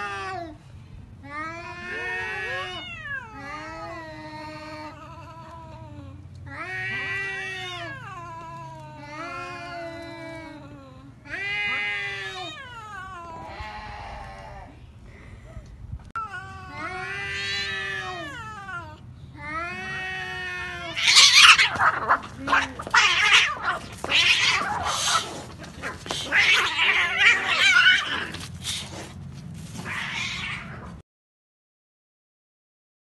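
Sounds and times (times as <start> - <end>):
cats screeching and hissing: 0.0 - 0.6, 1.4 - 5.8, 6.5 - 10.5, 11.3 - 14.7, 16.2 - 31.0
cats yowling: 0.0 - 0.6, 1.4 - 5.8, 6.5 - 14.8, 16.2 - 29.0, 29.7 - 31.0.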